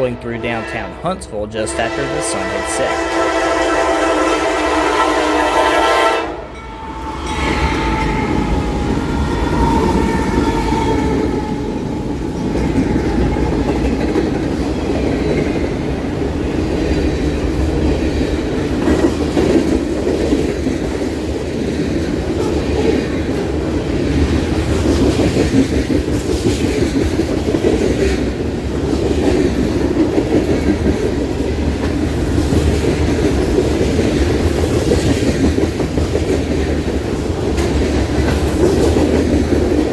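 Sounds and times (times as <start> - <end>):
freight train rumbling past: 0.0 - 39.9
wheels clicking over rail joints: 6.6 - 39.9.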